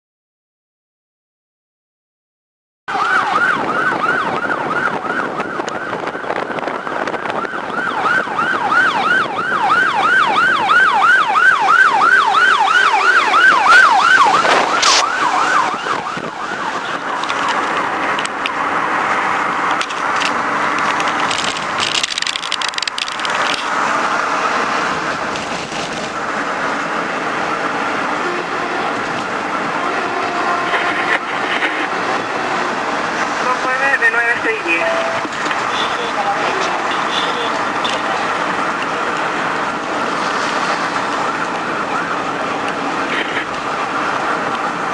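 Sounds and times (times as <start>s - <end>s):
engine and road noise: 2.9s - 44.9s
fire engine siren yelping: 2.9s - 44.9s
traffic noise: 2.9s - 44.9s.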